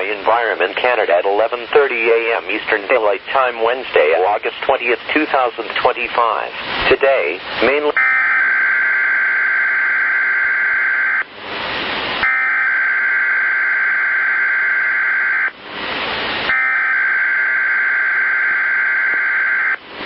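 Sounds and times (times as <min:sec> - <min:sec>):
radio static: 0:00.0 - 0:11.3, 0:11.9 - 0:19.8.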